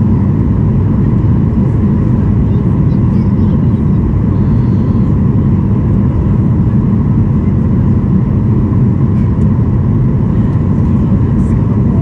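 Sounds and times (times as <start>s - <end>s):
faint steady whine: 0.0s - 12.0s
jet engine and airflow rush: 0.0s - 12.0s.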